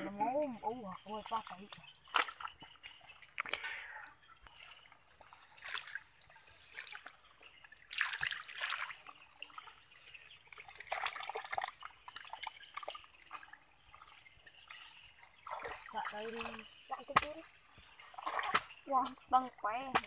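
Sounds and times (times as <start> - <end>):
mud and water sloshing: 0.0 - 3.8, 4.5 - 20.0.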